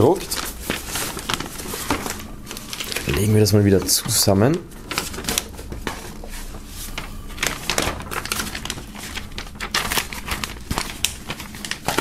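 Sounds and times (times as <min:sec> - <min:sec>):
paper poster rustling and crinkling: 0:00.0 - 0:12.0.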